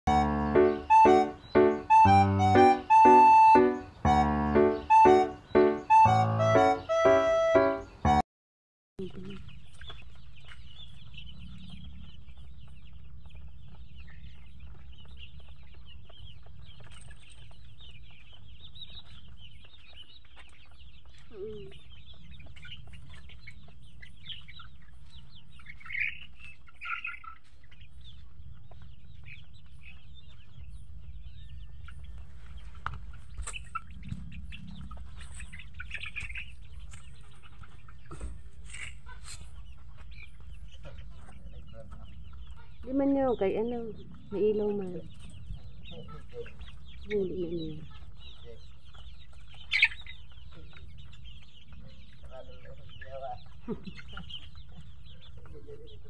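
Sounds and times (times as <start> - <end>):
chickens clucking and cheeping: 0.1 - 8.2, 9.0 - 56.0.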